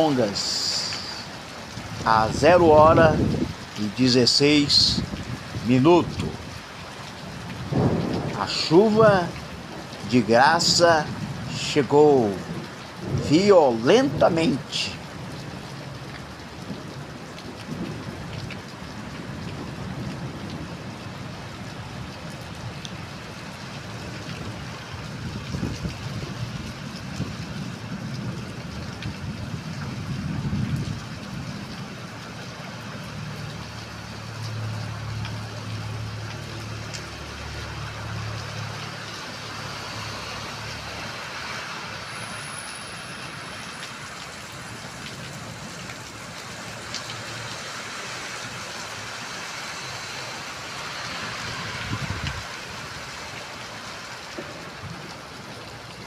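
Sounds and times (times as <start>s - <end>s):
heavy rain hissing: 0.0s - 15.3s, 23.6s - 55.9s.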